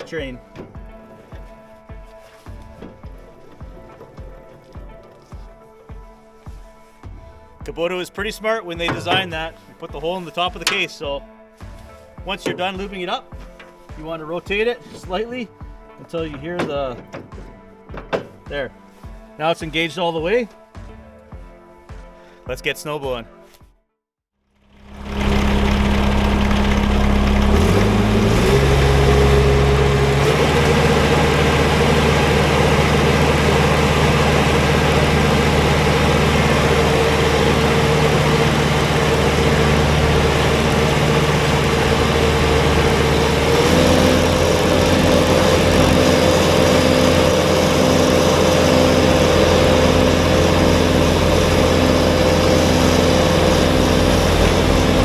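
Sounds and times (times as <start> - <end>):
tractor diesel engine running: 0.0 - 18.8, 24.6 - 55.0.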